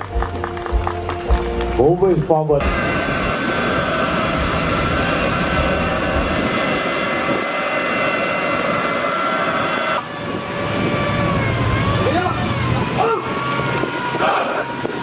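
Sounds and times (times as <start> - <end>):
aircraft engine whine: 0.0 - 15.0.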